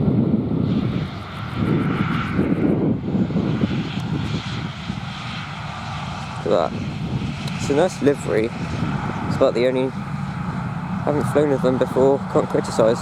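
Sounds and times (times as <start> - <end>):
faint engine whine: 0.0 - 13.0
jet engines rumbling: 0.0 - 13.0.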